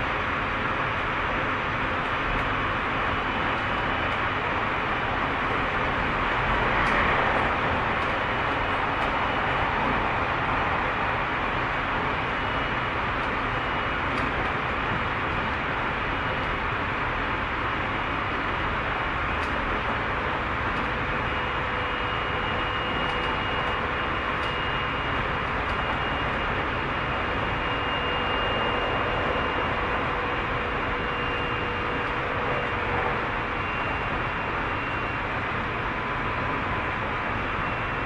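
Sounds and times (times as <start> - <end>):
faint steady whining tones: 0.0 - 38.0
train wheels rumbling on rail: 0.1 - 38.0.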